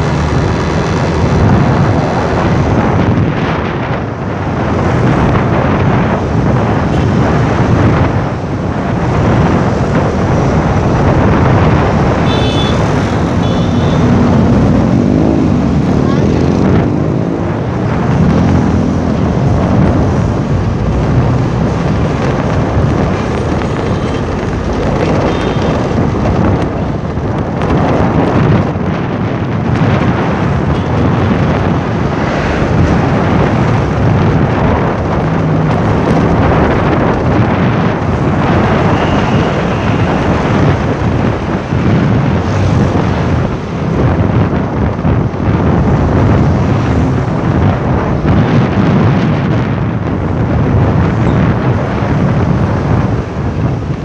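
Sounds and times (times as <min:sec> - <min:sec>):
motorcycle engines: 0:00.0 - 0:54.0
moving vehicle rumble: 0:00.0 - 0:54.0
wind buffeting microphone: 0:00.0 - 0:54.0.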